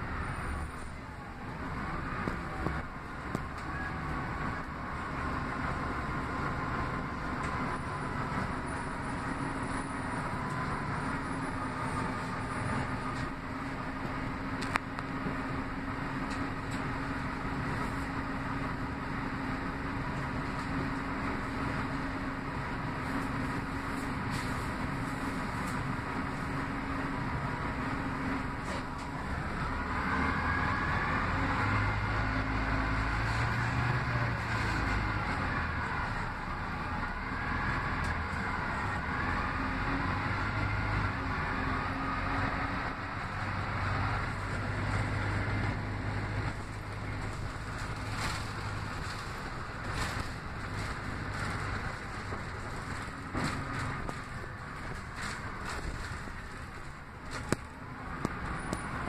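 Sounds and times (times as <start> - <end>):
bus engine idling: 0.0 - 59.0
road noise: 0.0 - 59.0.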